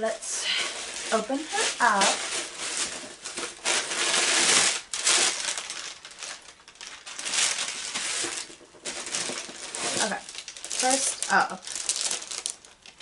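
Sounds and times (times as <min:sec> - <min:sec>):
packaging crinkling and rustling: 0:00.5 - 0:13.0.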